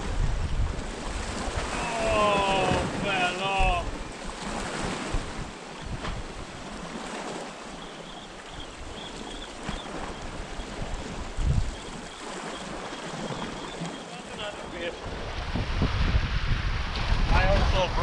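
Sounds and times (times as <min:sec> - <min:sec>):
sea waves washing against rocks: 0:00.0 - 0:18.0
wind rumbling on microphone: 0:00.0 - 0:18.0.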